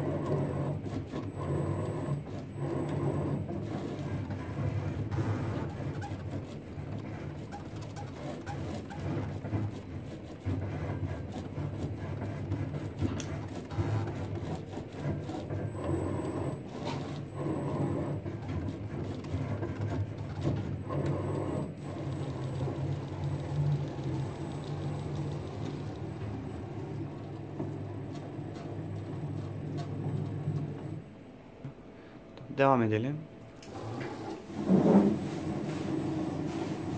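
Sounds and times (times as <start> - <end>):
router motors humming and whining: 0.0 - 31.1.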